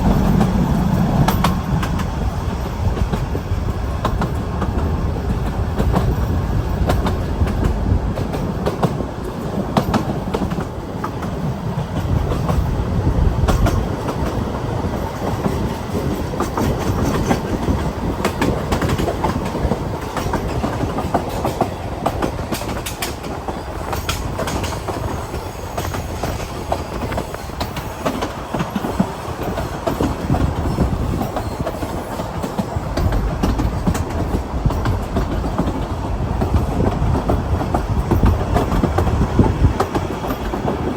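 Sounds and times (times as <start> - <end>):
train rumbling: 0.0 - 40.9
wheels clicking on track: 0.0 - 40.9.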